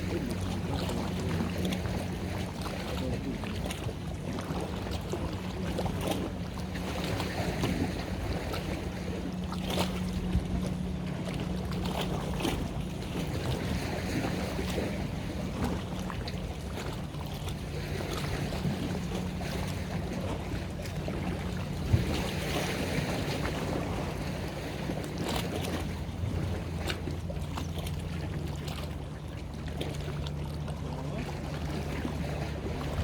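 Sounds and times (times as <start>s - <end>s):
wind buffeting microphone: 0.0s - 29.6s
boat engine humming: 0.0s - 33.0s
water rushing: 0.0s - 33.0s.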